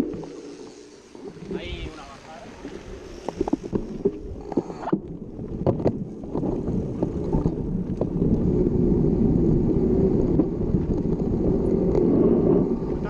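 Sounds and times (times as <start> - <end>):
wind noise on microphone: 1.2 - 13.0.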